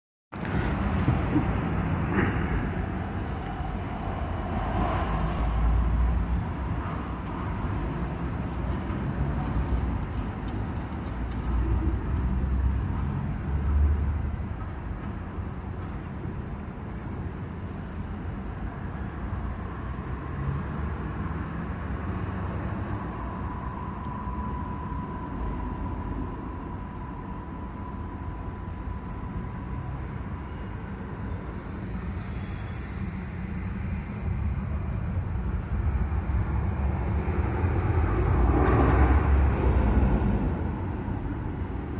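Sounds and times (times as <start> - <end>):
rumble of road traffic: 0.3 - 41.9.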